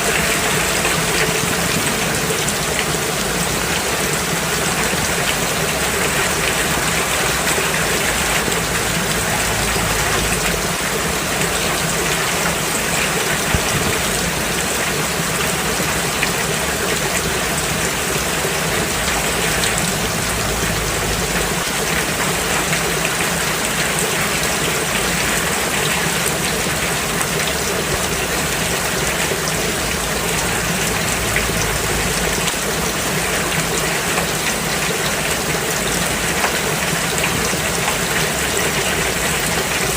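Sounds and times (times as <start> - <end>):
rain falling on a road: 0.0 - 39.9.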